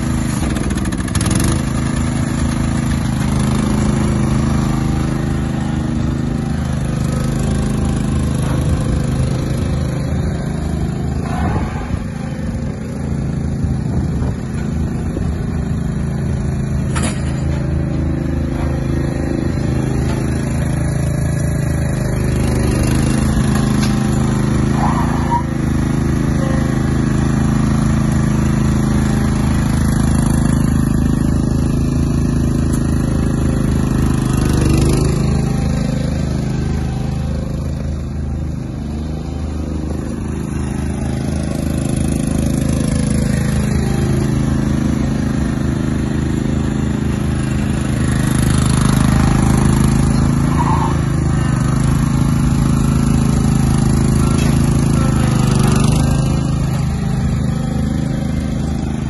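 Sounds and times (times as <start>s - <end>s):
ride-on mower engine running: 0.0s - 59.0s.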